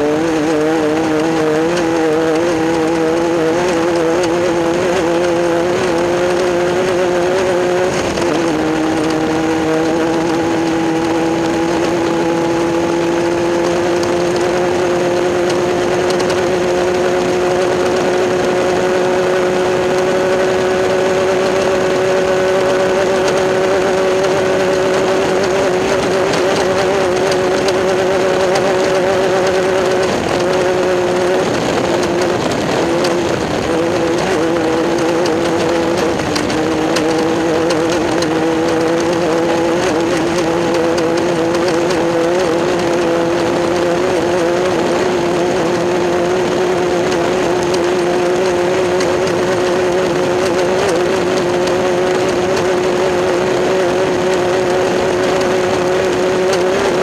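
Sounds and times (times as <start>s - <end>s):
buggy engine revving high: 0.0s - 57.0s.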